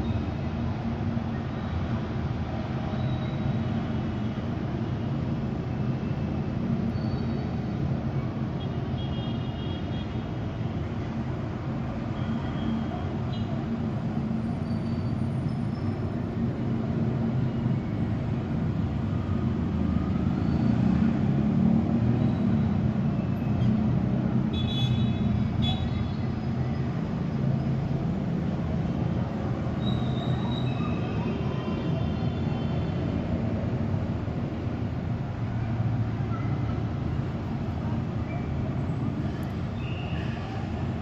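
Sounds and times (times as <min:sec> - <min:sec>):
distant city traffic rumble: 0:00.0 - 0:41.0.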